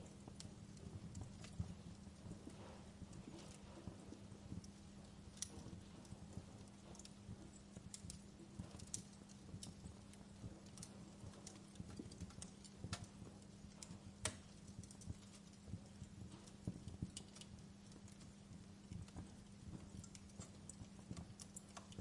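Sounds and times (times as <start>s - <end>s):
faint low hum: 0.0s - 22.0s
wood fire crackling: 0.0s - 22.0s.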